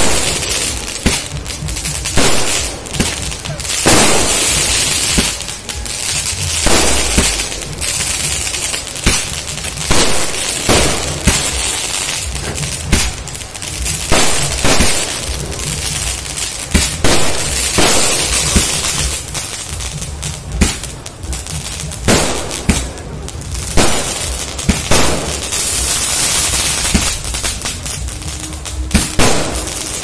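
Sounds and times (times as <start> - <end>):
firework bangs: 0.0 - 30.0
firework crackling: 0.0 - 30.0.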